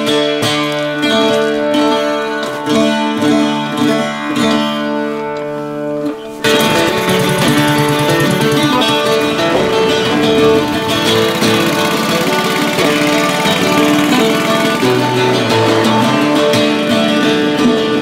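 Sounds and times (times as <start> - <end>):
plucked and strummed guitar music: 0.0 - 18.0.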